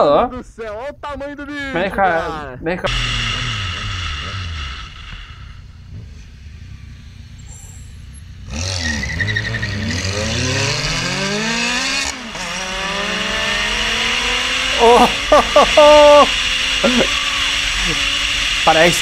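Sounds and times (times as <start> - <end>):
road noise: 1.1 - 19.0
sports car engine accelerating: 2.8 - 19.0.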